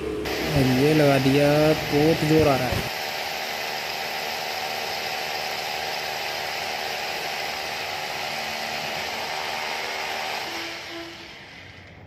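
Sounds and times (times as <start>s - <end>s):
electric drill boring into ceiling: 0.0s - 12.0s.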